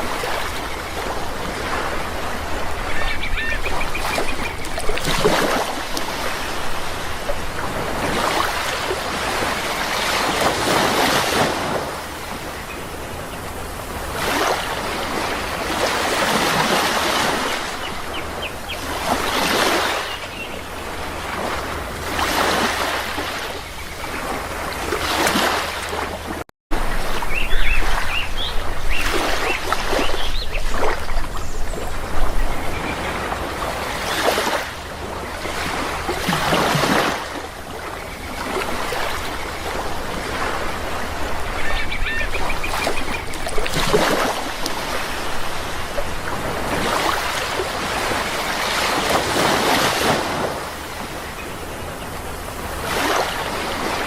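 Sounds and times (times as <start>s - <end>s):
birds calling: 0.0s - 21.8s, 27.0s - 54.0s
sea waves washing: 0.0s - 54.0s.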